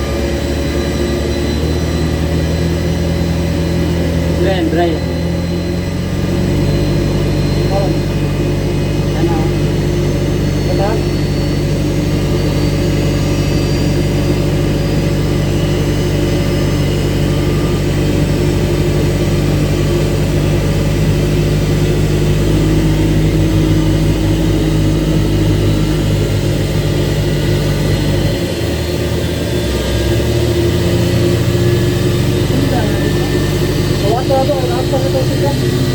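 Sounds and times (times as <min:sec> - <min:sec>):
aircraft engine drone: 0:00.0 - 0:35.9.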